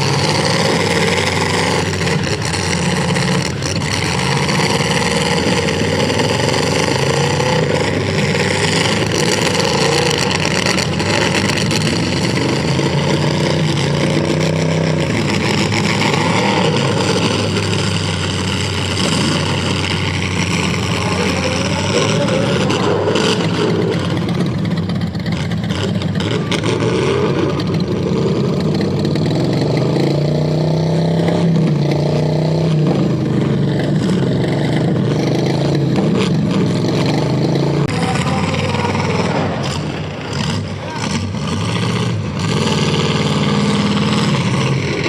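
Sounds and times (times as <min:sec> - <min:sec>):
car engines revving hard: 0:00.0 - 0:45.0.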